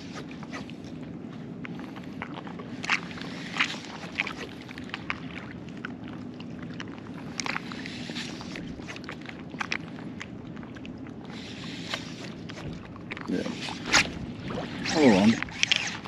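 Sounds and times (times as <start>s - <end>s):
water lapping around wader: 0.0s - 16.0s
small water splashes: 1.7s - 16.0s.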